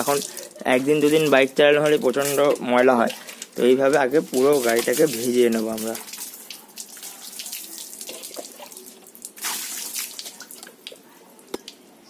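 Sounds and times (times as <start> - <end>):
water splashing and trickling: 0.0 - 11.9.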